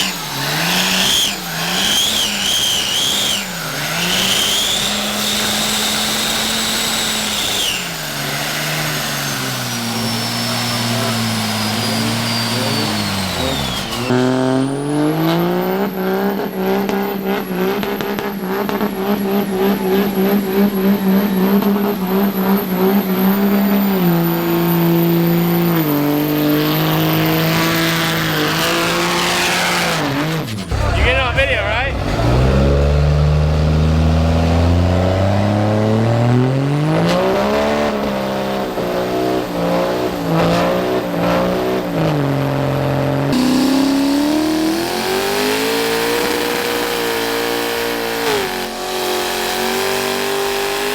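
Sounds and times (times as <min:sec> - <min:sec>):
diesel truck engine revving: 0:00.0 - 0:50.9.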